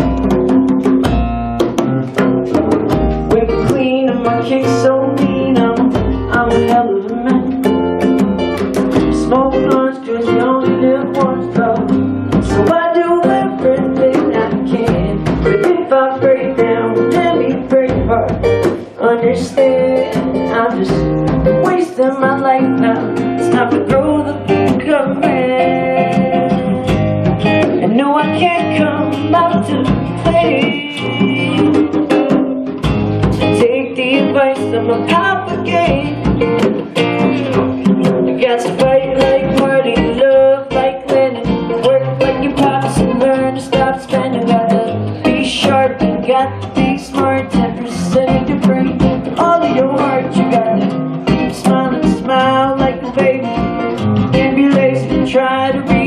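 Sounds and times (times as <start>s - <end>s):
acoustic guitars strummed: 0.0s - 56.0s
hand drum: 0.0s - 56.0s
man singing: 2.5s - 7.7s, 9.0s - 32.8s, 33.4s - 56.0s.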